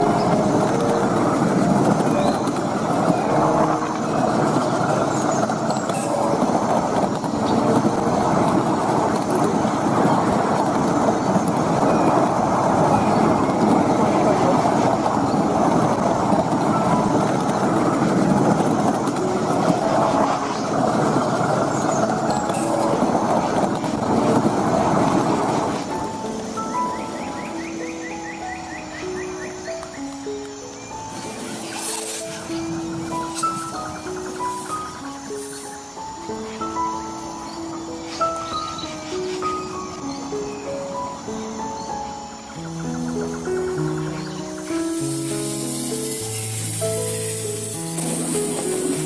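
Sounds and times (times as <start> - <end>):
train wheels running on rails: 0.0 - 49.0.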